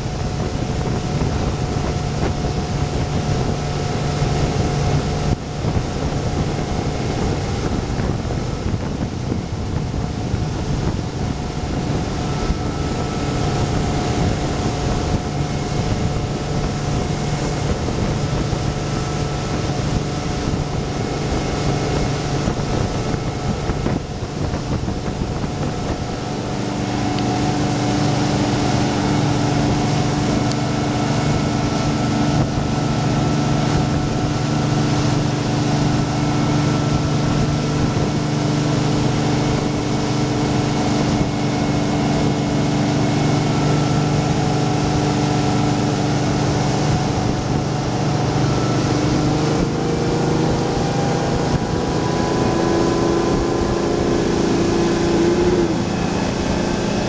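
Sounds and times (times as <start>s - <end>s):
boat engine drone: 0.0s - 57.0s
churning wake rushing: 0.0s - 57.0s
wind on microphone: 0.0s - 57.0s.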